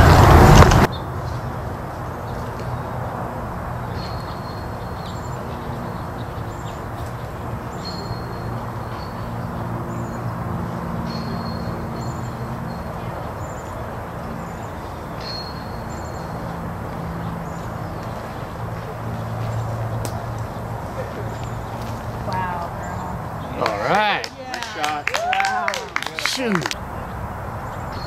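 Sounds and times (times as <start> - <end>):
small birds chirping: 0.5 - 25.0.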